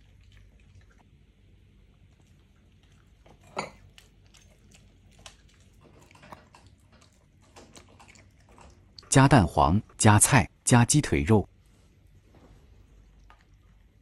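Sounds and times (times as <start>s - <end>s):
dogs chewing chicken: 0.0s - 9.2s, 11.9s - 14.0s.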